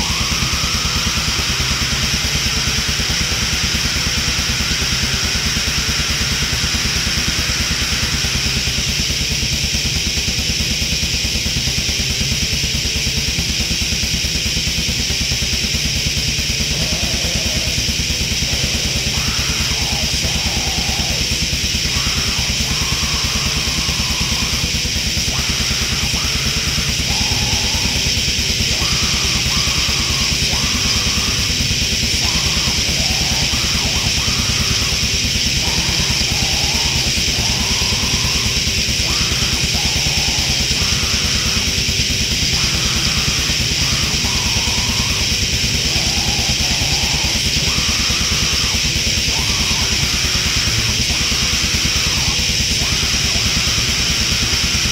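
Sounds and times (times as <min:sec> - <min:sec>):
heavy metal song: 0:00.0 - 0:54.9.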